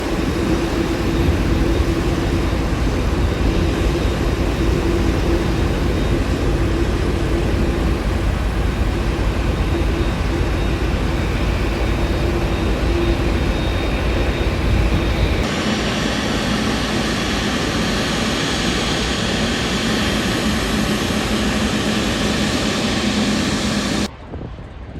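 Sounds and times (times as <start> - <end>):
faint high whine: 0.0 - 24.1
aircraft engines rumbling: 0.0 - 24.9.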